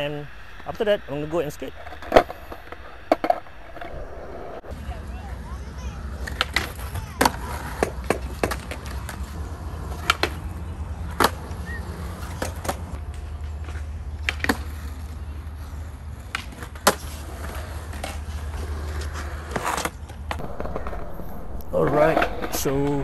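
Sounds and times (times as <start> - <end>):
skateboard wheels rumbling: 0.0 - 23.0
skateboard clacking on ground: 1.8 - 3.9, 5.4 - 23.0.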